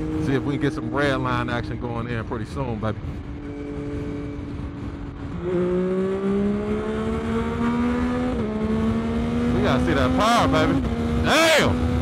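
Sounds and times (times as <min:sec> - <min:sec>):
motorcycle engine revving: 0:00.0 - 0:01.8, 0:03.2 - 0:12.0.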